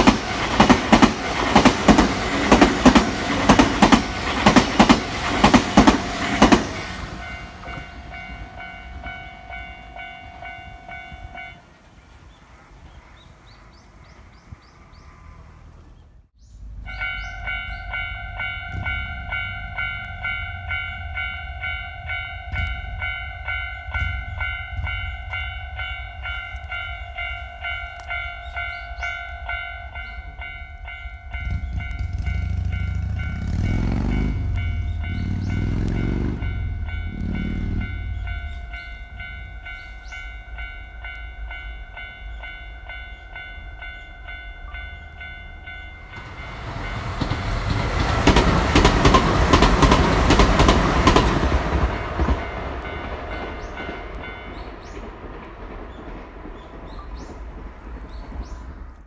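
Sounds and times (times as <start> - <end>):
level crossing bell clanging: 0.0 - 11.6, 16.9 - 54.8
train passing with rail clatter: 0.0 - 59.0.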